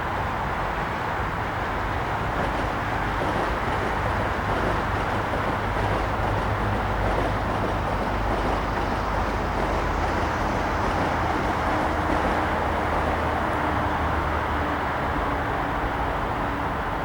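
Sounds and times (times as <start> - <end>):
passenger train rolling past: 0.0 - 17.0.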